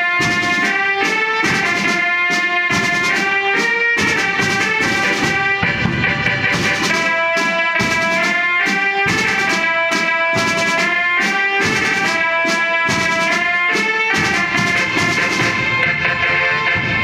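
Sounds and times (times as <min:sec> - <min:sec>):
horn melody: 0:00.0 - 0:17.0
snare and bass drum beats: 0:00.0 - 0:17.0.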